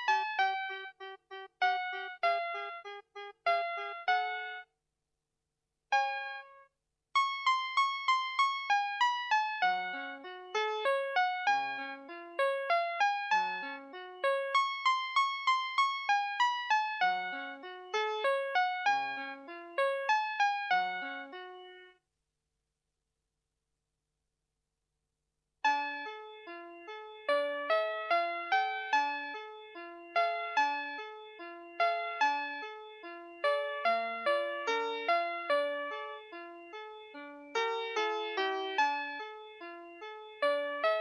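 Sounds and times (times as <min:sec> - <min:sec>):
toy piano-like electronic melody: 0:00.0 - 0:04.7, 0:05.9 - 0:22.0, 0:25.6 - 0:41.0.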